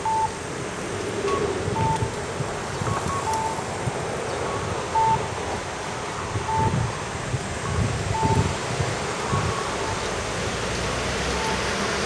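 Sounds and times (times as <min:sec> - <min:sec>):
low rumble of wind or traffic: 0:00.0 - 0:12.0.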